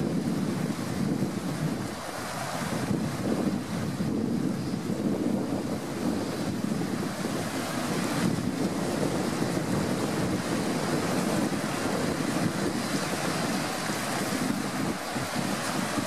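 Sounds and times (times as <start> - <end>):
waves breaking on rocks: 0.0 - 16.0.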